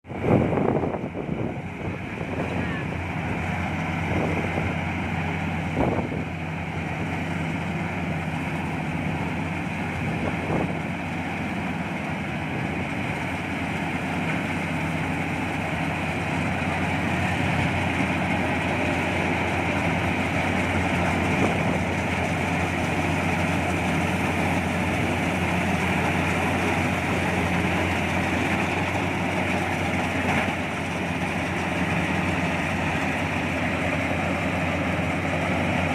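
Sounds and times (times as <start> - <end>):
combine harvester engine droning: 0.0 - 35.9.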